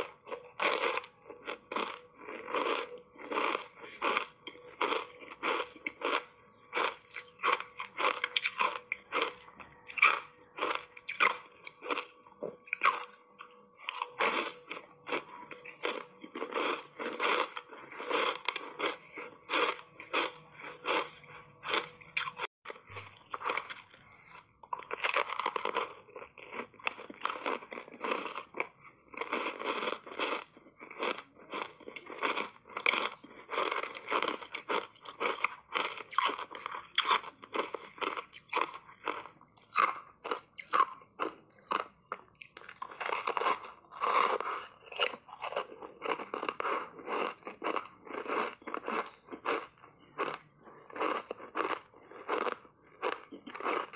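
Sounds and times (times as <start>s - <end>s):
ice crunching being chewed: 0.0s - 53.9s.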